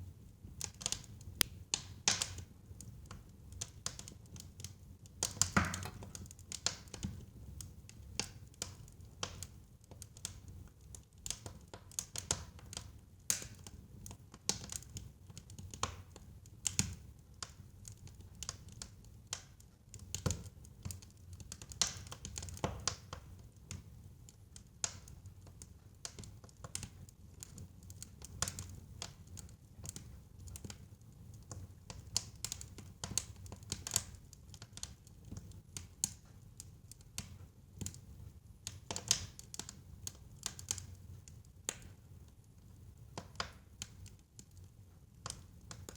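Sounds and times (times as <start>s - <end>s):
fire popping and snapping: 0.2s - 45.9s.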